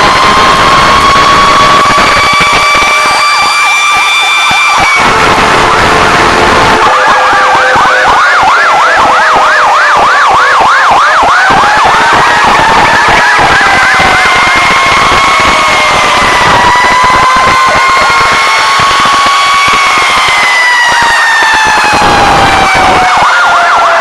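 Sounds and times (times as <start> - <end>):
fire truck sirens: 0.0 - 24.0.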